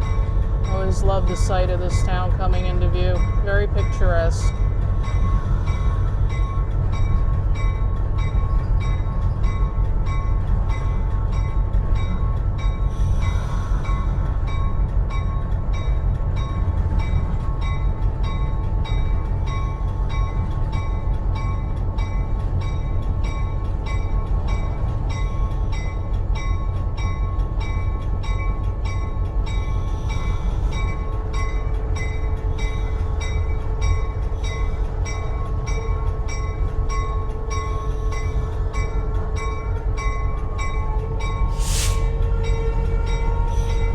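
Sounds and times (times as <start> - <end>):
locomotive engine drone: 0.0 - 43.9.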